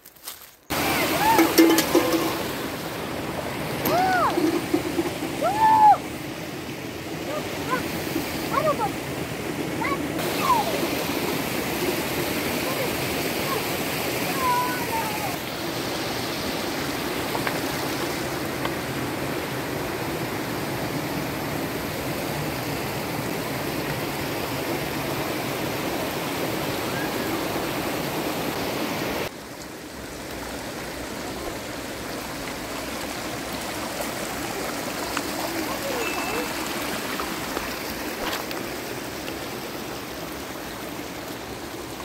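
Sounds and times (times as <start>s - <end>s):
stream water rushing: 0.7s - 42.0s.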